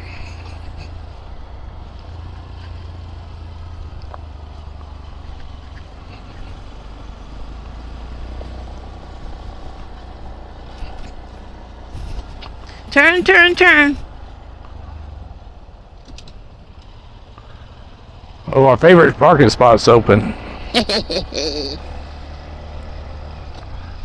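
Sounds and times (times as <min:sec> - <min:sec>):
riding rumble: 0:00.0 - 0:22.1.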